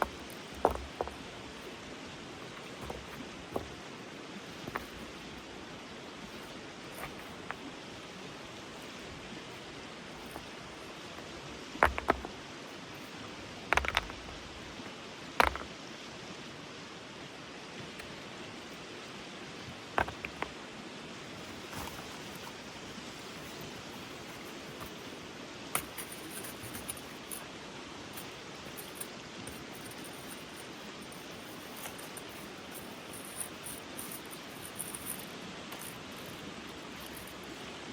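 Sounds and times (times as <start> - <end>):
mountain stream rushing: 0.0 - 37.9.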